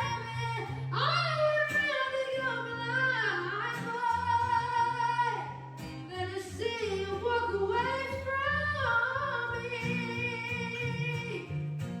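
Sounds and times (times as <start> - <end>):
woman singing: 0.0 - 11.8.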